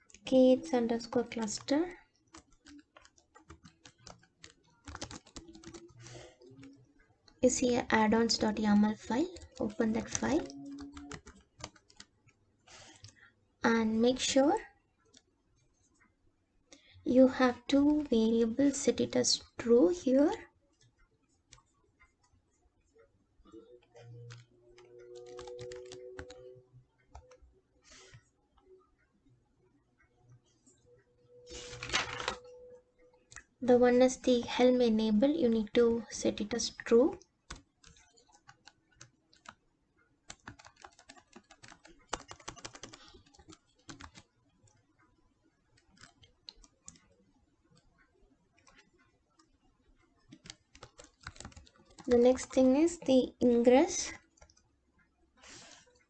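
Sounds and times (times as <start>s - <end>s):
computer keyboard typing: 0.0s - 15.7s, 17.1s - 22.4s, 23.4s - 29.4s, 30.3s - 54.7s.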